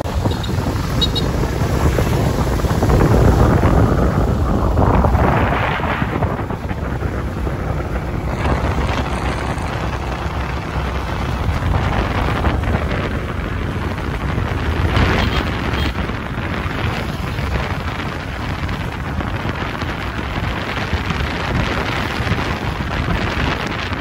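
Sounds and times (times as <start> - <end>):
road noise: 0.0 - 24.0
wind rushing over microphone: 0.0 - 24.0.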